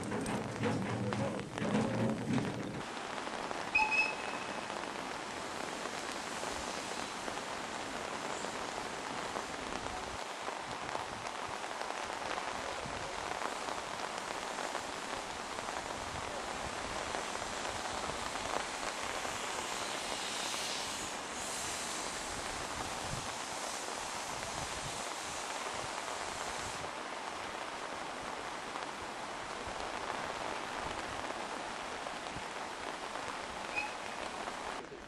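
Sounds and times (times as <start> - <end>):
rain falling on leaves: 0.0 - 35.0.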